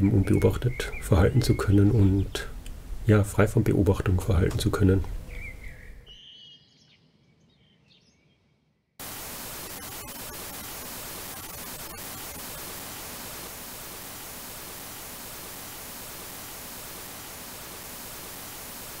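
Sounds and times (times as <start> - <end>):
television static hiss: 0.0 - 5.7, 9.0 - 19.0.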